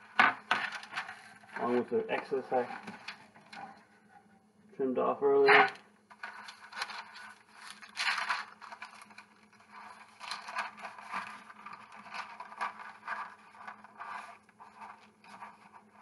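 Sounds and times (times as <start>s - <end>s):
parchment paper crinkling: 0.0s - 4.0s, 5.4s - 16.0s.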